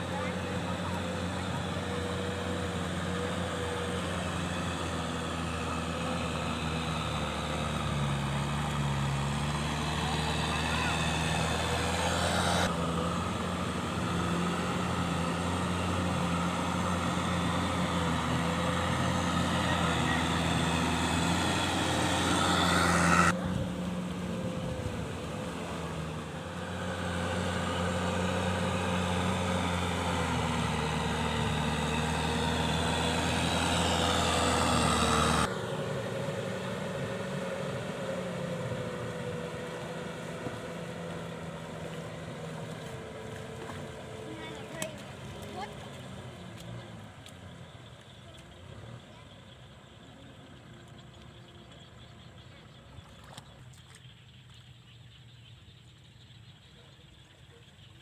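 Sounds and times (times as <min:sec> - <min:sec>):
tractor diesel engine running: 0:00.0 - 0:53.1.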